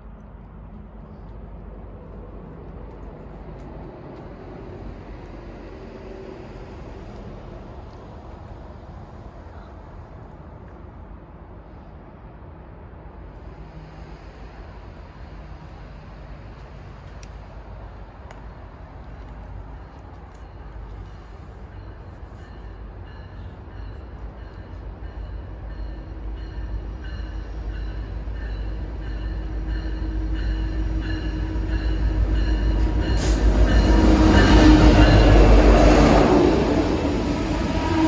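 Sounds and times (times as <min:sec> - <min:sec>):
freight train diesel rumble: 0:00.0 - 0:38.0.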